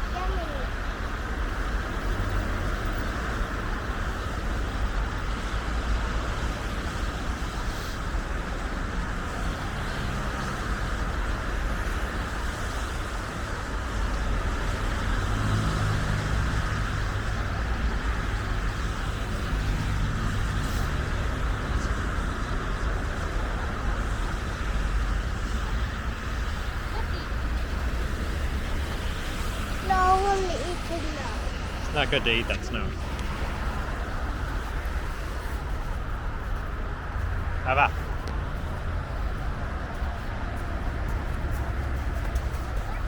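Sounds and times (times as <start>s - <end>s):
road traffic noise: 0.0s - 43.0s.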